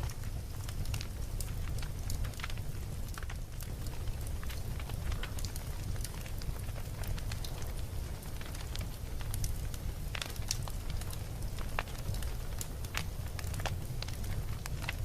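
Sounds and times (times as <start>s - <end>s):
low rumble of flames: 0.0s - 15.0s
wood crackles and pops: 0.0s - 15.0s.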